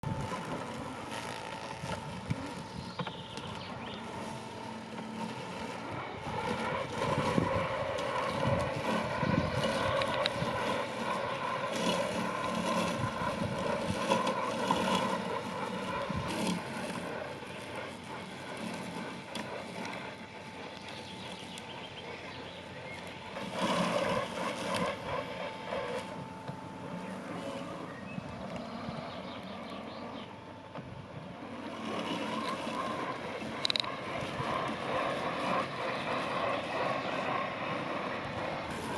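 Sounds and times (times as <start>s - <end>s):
robotic lawn mower motor running: 0.0s - 38.9s.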